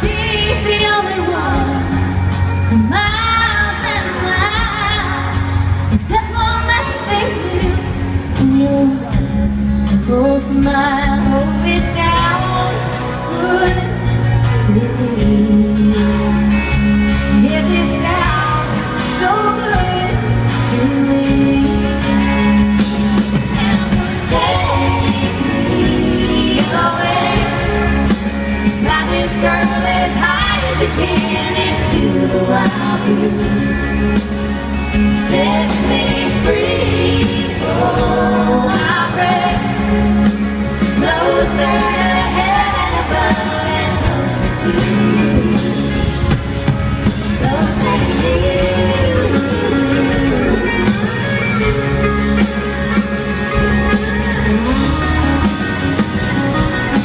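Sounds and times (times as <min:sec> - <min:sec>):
live country band music: 0:00.0 - 0:57.0.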